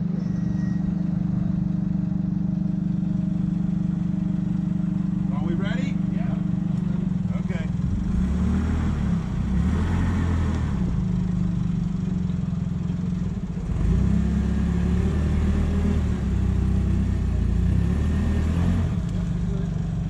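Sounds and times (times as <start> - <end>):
large engine humming: 0.0 - 20.0.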